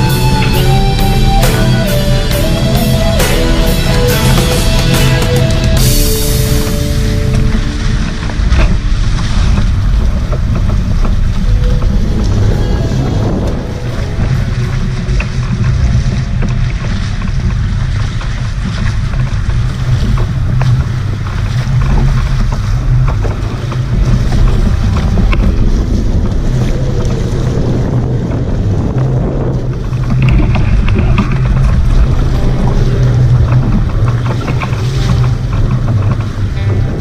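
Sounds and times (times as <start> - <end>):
water rushing along hulls: 0.0 - 37.0
wind buffeting microphone: 0.0 - 37.0.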